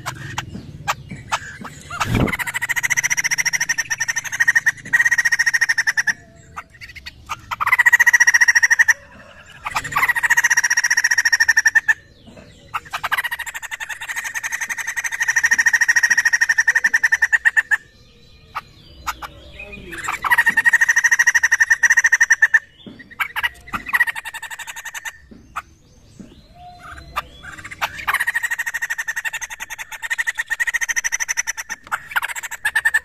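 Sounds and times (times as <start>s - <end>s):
bird buzzy rattling chatter: 0.0s - 17.9s, 18.5s - 25.8s, 26.8s - 33.0s
soft bird calls: 0.0s - 33.0s.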